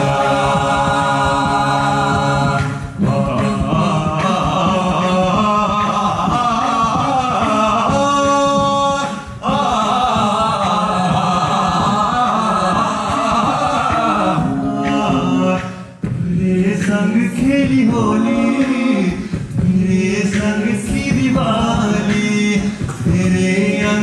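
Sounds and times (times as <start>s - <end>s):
group singing backing vocals: 0.0s - 24.0s
man singing lead: 0.0s - 24.0s.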